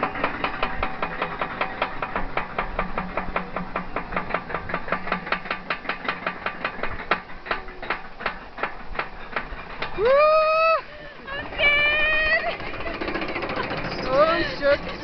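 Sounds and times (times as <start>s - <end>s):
roller coaster ratchet clicking: 0.0s - 15.0s.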